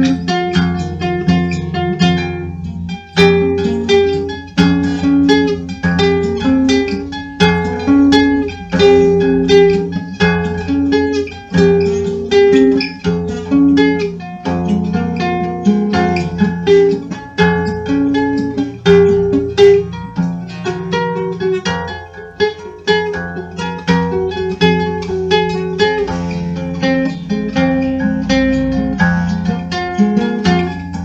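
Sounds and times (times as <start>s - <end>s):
plucked string instrument: 0.0s - 31.0s.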